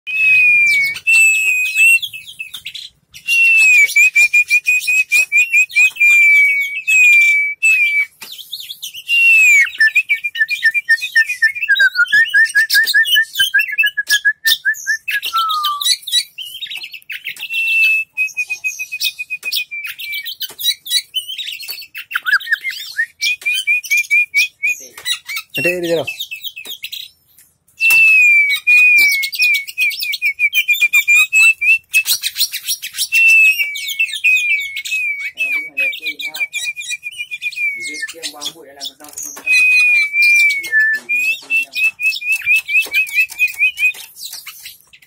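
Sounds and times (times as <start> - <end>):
songbird singing whistles and trills: 0.1 - 45.0.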